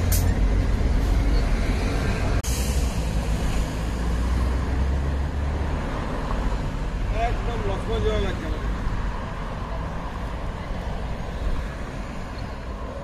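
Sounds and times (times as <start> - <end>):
heavy vehicle engine rumbling: 0.0 - 13.0
street traffic: 0.0 - 13.0.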